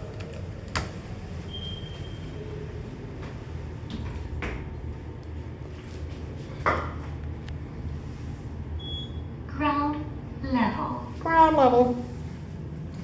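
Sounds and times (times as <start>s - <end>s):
elevator hum: 0.0s - 13.0s.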